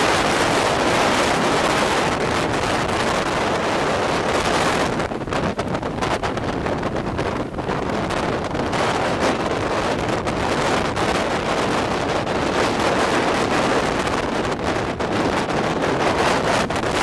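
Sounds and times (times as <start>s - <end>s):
heavy surf rushing: 0.0s - 17.0s
wind buffeting microphone: 0.0s - 17.0s.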